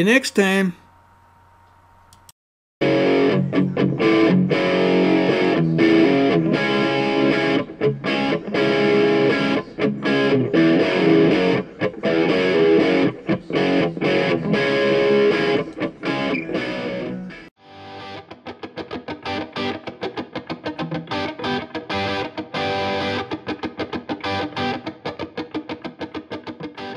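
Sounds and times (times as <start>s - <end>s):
distorted electric guitar music: 2.8s - 26.9s.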